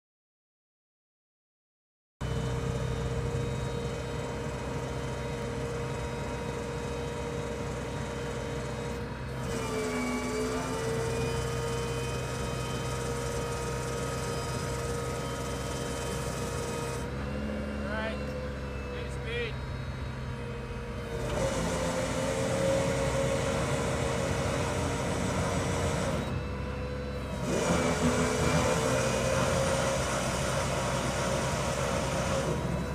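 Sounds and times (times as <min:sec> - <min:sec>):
hoist motor whine: 0:02.2 - 0:32.9
truck engine running: 0:02.2 - 0:32.9.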